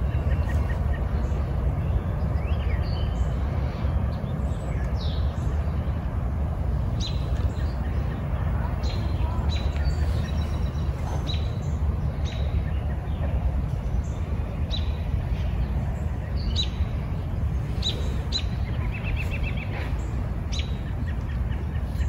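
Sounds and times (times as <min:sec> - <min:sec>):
songbirds chirping: 0:00.0 - 0:22.0
steady low rumble: 0:00.0 - 0:22.0.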